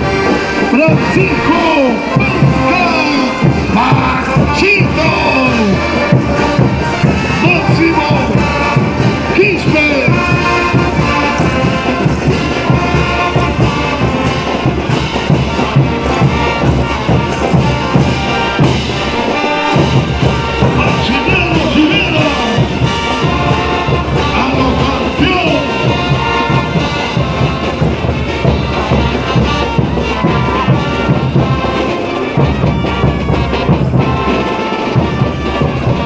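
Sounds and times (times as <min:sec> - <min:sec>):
brass band playing: 0:00.0 - 0:36.0.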